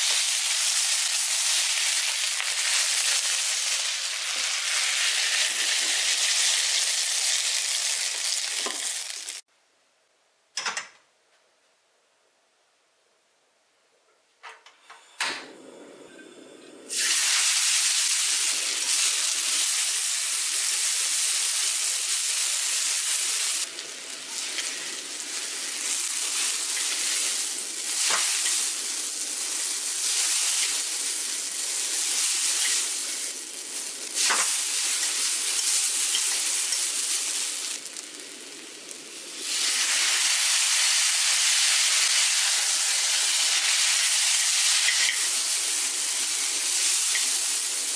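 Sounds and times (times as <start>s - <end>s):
noodles sizzling in a wok: 0.0s - 9.5s, 16.9s - 47.9s.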